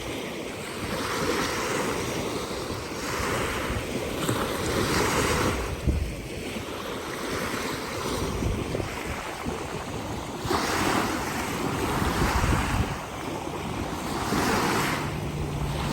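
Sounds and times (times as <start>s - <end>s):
small waves washing: 0.0s - 15.9s
wind buffeting microphone: 0.0s - 15.9s.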